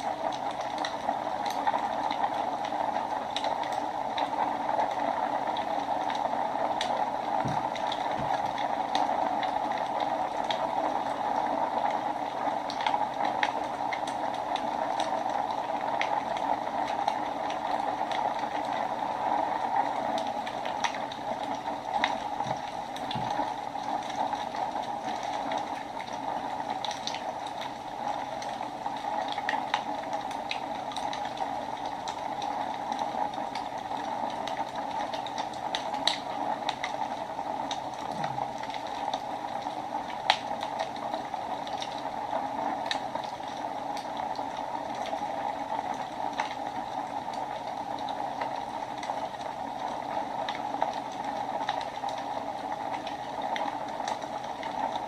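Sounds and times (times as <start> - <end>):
fire crackles and pops: 0.0 - 55.0
wood fire hissing: 0.0 - 55.0.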